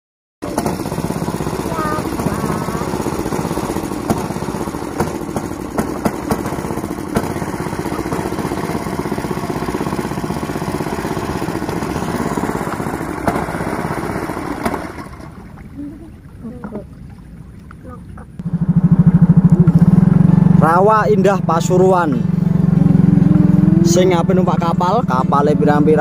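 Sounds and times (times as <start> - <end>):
outboard motor running: 0.4 - 26.0.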